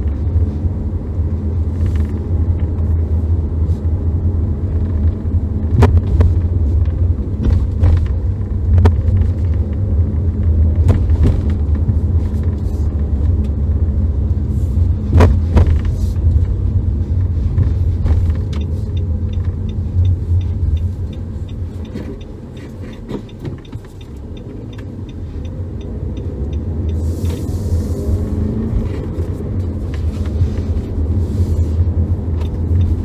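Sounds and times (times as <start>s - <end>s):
car engine and road rumble: 0.0s - 33.0s
turn signal ticking: 0.0s - 33.0s.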